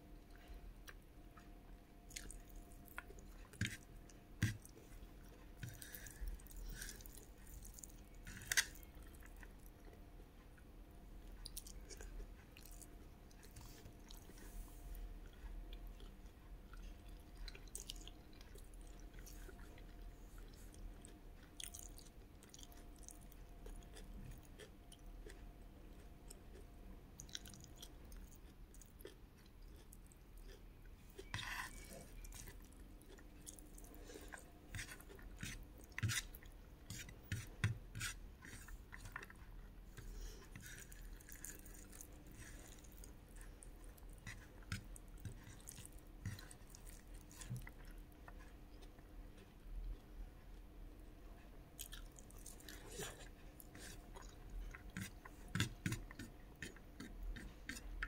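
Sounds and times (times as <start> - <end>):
chewing and lip smacking: 0.3 - 10.0, 11.3 - 14.4, 15.2 - 50.7, 51.8 - 58.0.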